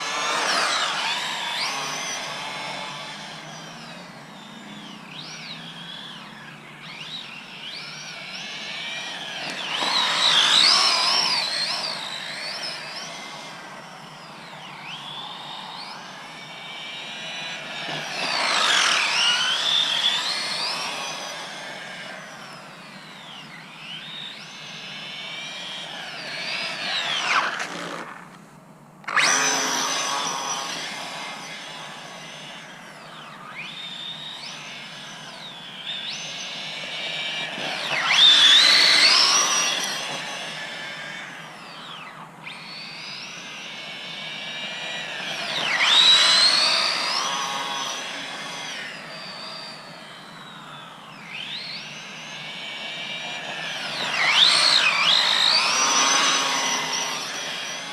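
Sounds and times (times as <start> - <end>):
small electric motor whining: 0.0 - 57.9.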